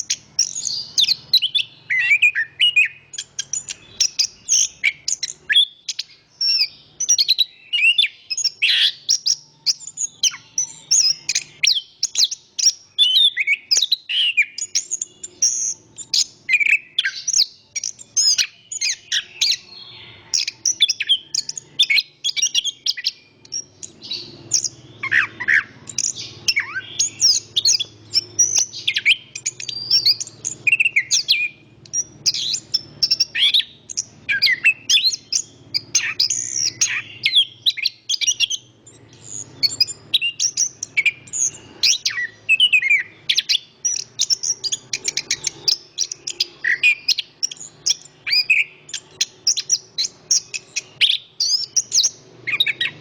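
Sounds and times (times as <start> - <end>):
thrush singing high chirps: 0.0 - 53.0.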